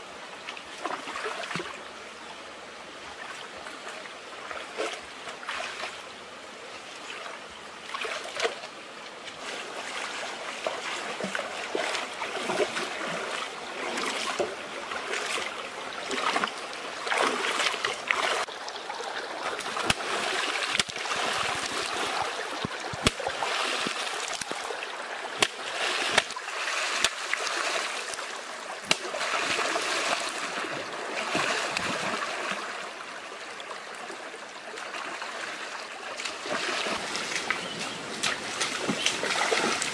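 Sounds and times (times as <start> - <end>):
rocky stream running: 0.0 - 39.9
splashing of wading in water: 4.5 - 6.0, 7.1 - 32.9, 34.7 - 39.9.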